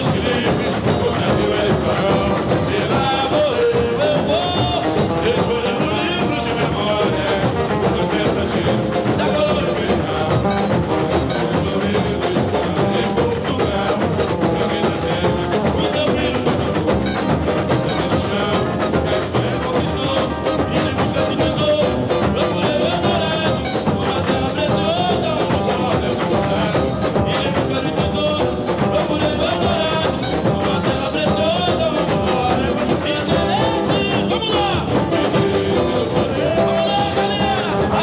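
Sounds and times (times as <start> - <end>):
person singing: 0.0 - 38.0
samba drum section: 0.0 - 38.0.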